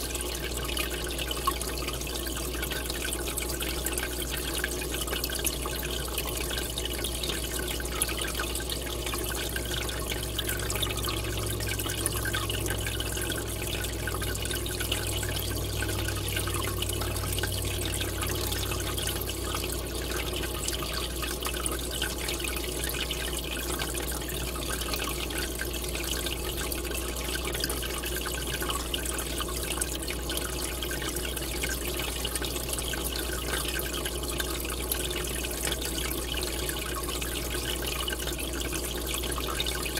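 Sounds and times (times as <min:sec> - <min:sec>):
aquarium air bubbles bubbling: 0:00.0 - 0:39.9
low steady hum: 0:00.0 - 0:39.9.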